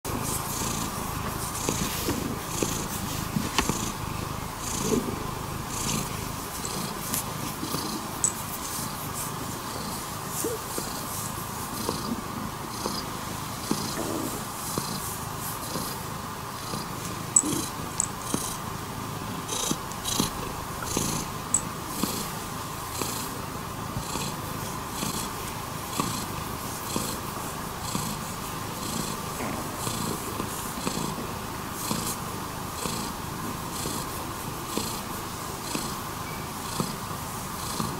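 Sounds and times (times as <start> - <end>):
cat purring: 0.1 - 37.9.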